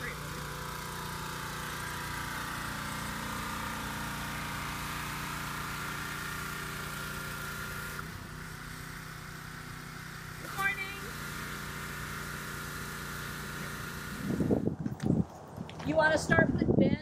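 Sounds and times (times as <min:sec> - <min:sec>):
pressure washer engine running: 0:00.0 - 0:14.7.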